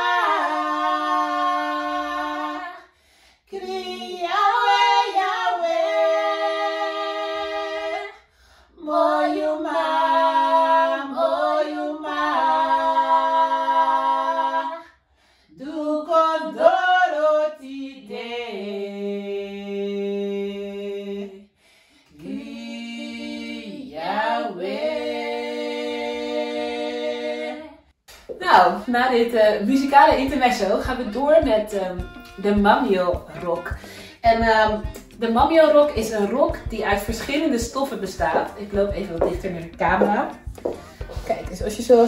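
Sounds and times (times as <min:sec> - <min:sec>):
women singing unaccompanied: 0:00.0 - 0:14.9, 0:15.5 - 0:21.4, 0:22.1 - 0:27.8, 0:28.5 - 0:42.0.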